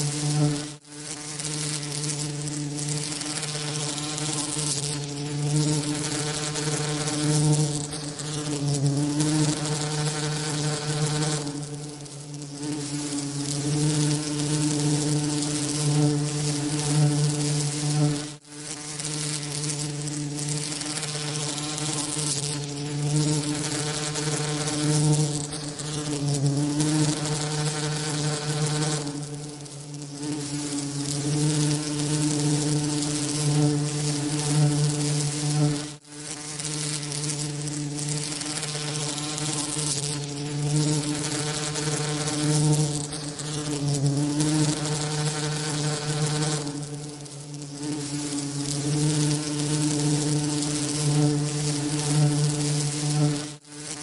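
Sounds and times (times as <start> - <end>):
bee wings buzzing: 0.0 - 54.0.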